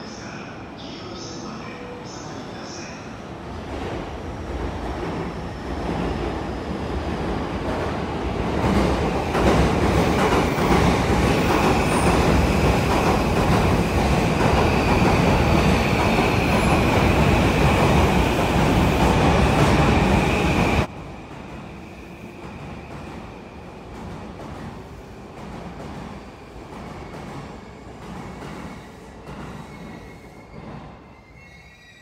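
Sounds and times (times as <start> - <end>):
monorail train running: 0.0 - 32.0.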